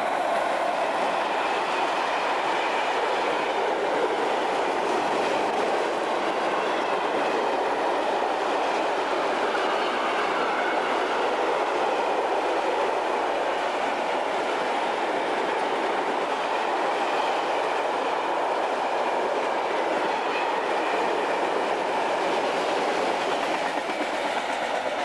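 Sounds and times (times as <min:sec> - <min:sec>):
freight train passing: 0:00.0 - 0:25.0.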